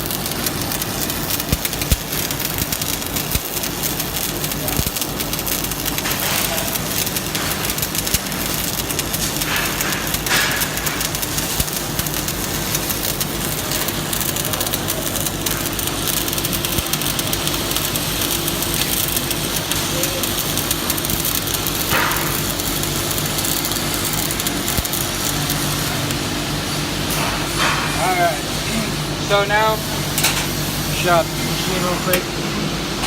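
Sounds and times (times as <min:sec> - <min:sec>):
welding arc crackling: 0:00.0 - 0:32.4
steady low hum: 0:00.0 - 0:33.0.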